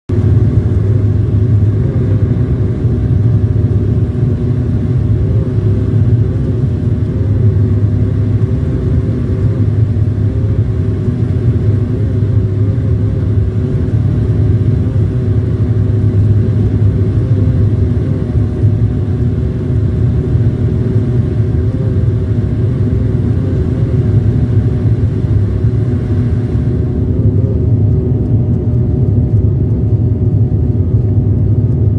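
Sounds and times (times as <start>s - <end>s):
airliner cabin drone: 0.1s - 31.9s.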